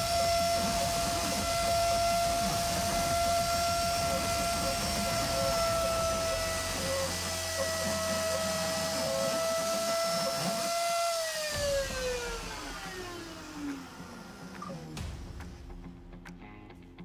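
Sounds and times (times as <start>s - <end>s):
router spindle whining: 0.0s - 15.1s.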